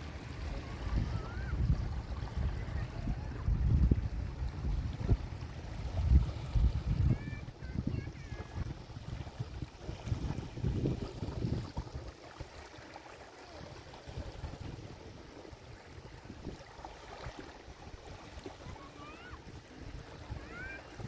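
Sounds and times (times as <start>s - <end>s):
small waves washing onto beach: 0.0s - 21.0s.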